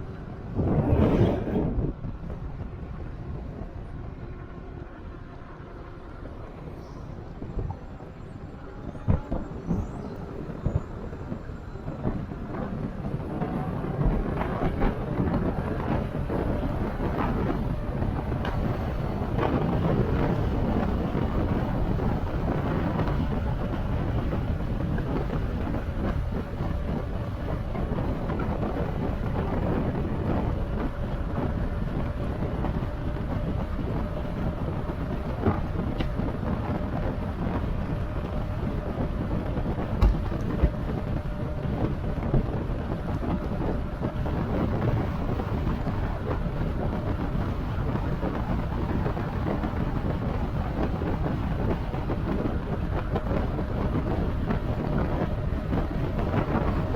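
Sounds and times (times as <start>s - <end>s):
e-bike road noise: 0.0s - 56.9s
wind buffeting microphone: 0.0s - 56.9s.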